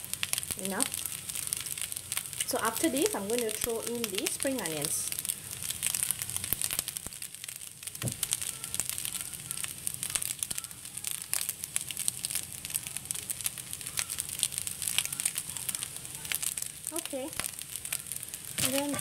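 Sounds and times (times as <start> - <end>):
rice crackling in hot wok: 0.0 - 19.0.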